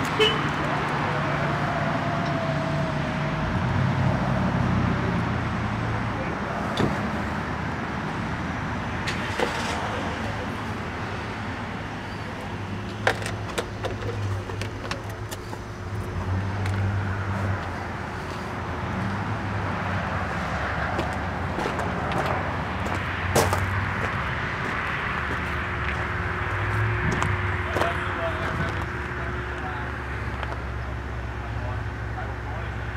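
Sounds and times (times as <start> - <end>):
motor vehicle rumble: 0.0 - 32.9.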